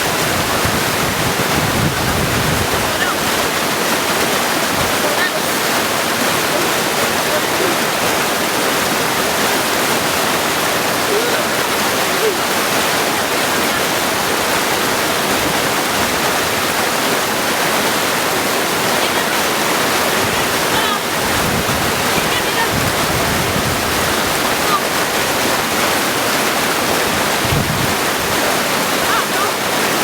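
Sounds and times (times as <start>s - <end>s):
stream rushing over rocks: 0.0s - 30.0s
water gurgles: 0.0s - 30.0s.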